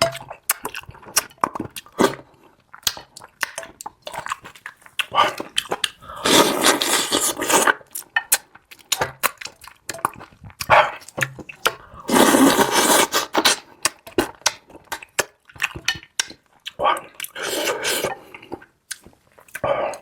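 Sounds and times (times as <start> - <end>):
chewing mouth sounds: 0.1 - 20.0.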